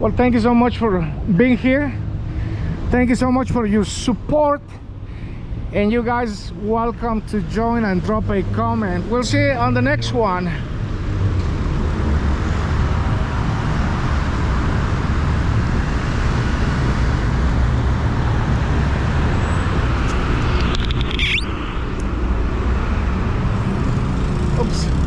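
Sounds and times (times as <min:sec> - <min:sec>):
city street traffic rumble: 0:00.0 - 0:25.0.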